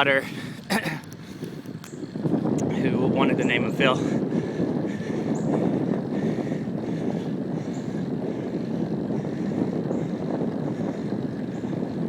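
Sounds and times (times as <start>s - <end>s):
road noise: 0.0s - 12.0s
rushing wind on microphone: 0.0s - 12.0s.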